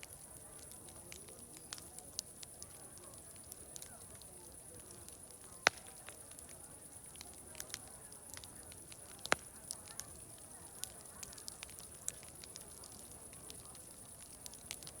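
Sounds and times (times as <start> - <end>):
murmur of distant voices: 0.0 - 15.0
wood fire crackling and popping: 0.0 - 15.0.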